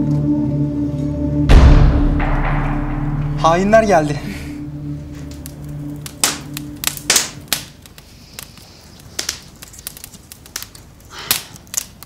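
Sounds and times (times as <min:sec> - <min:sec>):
wood fire crackling and popping: 0:02.0 - 0:12.0.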